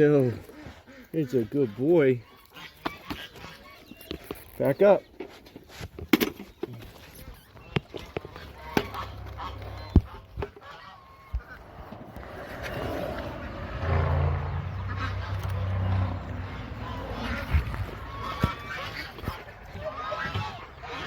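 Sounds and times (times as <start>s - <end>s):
geese honking: 0.2s - 4.0s, 7.1s - 21.0s.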